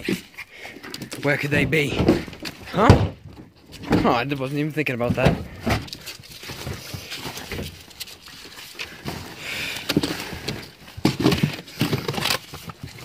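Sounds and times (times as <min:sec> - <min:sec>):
vinyl rustling and crinkling: 0:00.0 - 0:13.0.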